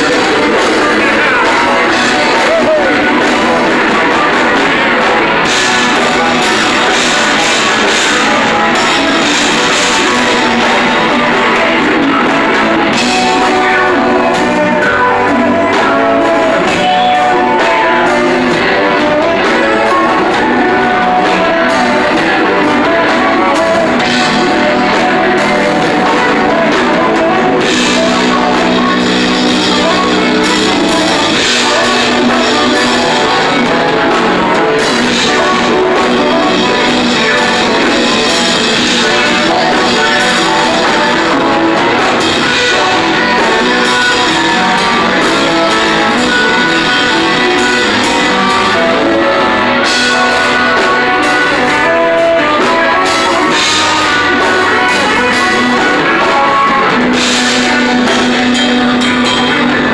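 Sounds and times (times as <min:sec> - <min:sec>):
live band playing loud music: 0:00.0 - 0:59.9.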